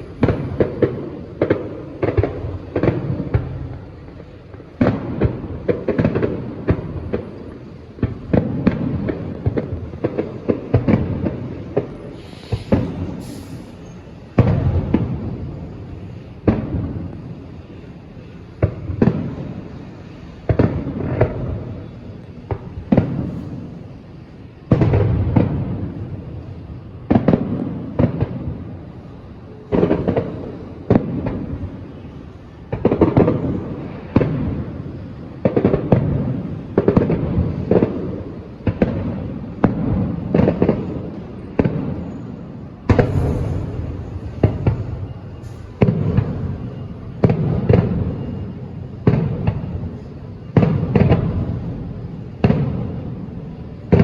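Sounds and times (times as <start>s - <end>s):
crackling fireworks burst: 0.0s - 54.0s
fireworks booming: 0.0s - 54.0s.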